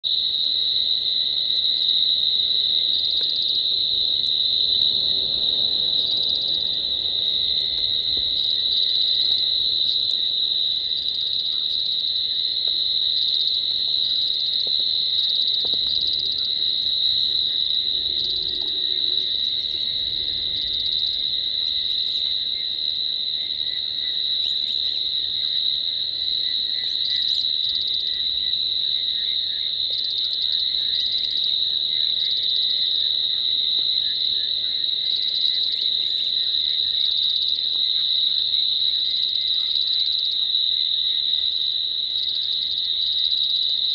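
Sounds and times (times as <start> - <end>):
frogs low tone: 0.0 - 42.5
crickets trilling: 0.0 - 43.9.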